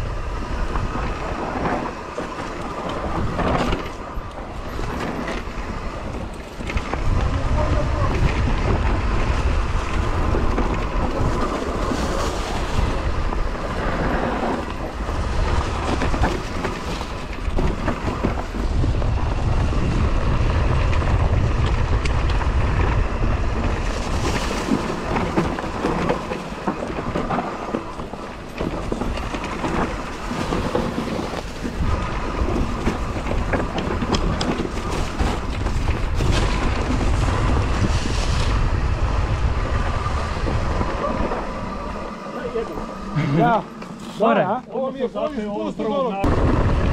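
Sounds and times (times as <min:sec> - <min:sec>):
wind buffeting microphone: 0:00.0 - 0:43.8, 0:45.5 - 0:46.9
bike rattling and clattering: 0:00.0 - 0:46.9
bike tyres rumbling on trail: 0:00.0 - 0:46.9.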